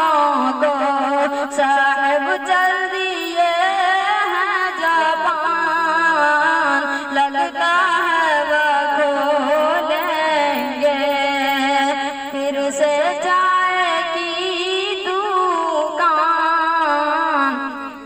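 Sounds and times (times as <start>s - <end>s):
boy singing into microphone: 0.0s - 18.0s.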